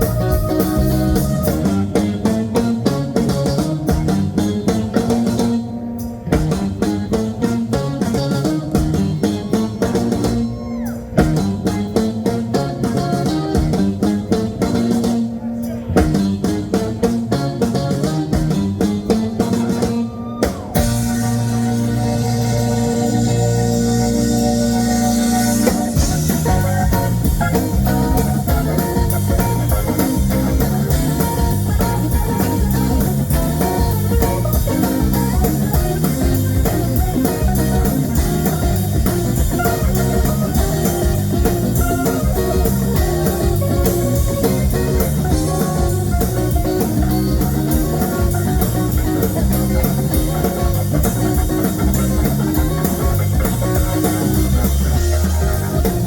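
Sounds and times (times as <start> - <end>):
electric guitar: 0.0 - 56.0
live blues band: 0.0 - 56.0.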